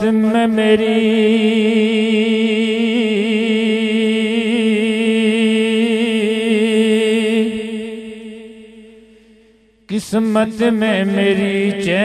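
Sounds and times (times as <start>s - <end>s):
man singing unaccompanied: 0.0s - 8.5s, 9.9s - 12.0s.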